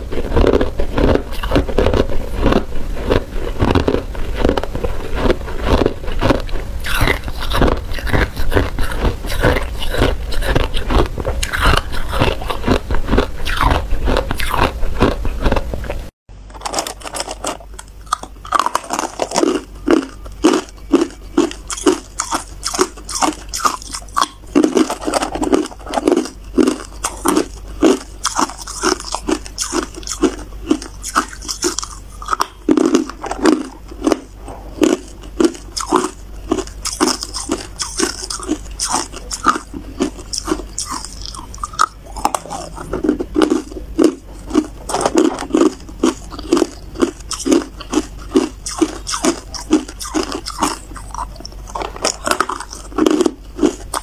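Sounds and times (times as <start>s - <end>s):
ice cubes being chewed: 0.0s - 54.0s.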